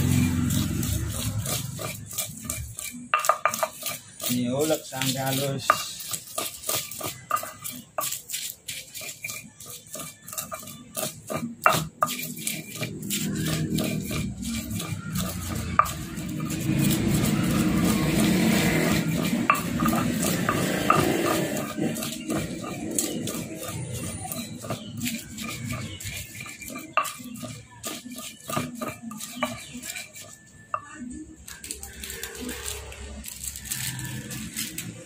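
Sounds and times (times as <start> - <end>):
stone pestle knocking and grinding: 0.0 - 32.5.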